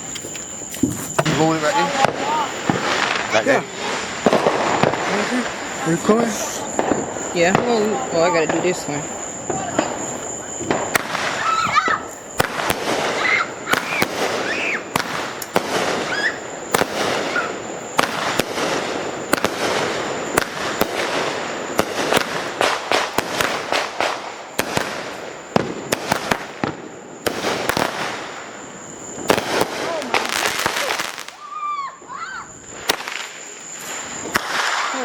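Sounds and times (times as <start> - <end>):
firework bangs: 0.0 - 35.0
fireworks crackling: 0.0 - 35.0.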